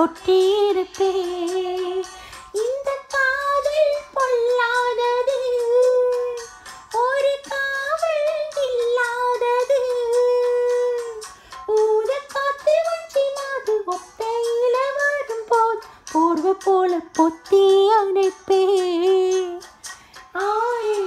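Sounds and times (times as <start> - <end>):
person singing unaccompanied: 0.0 - 21.0.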